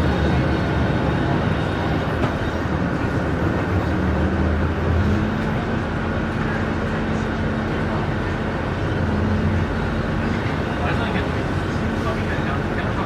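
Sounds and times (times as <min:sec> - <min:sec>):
bus diesel engine drone: 0:00.0 - 0:13.0
road noise: 0:00.0 - 0:13.0.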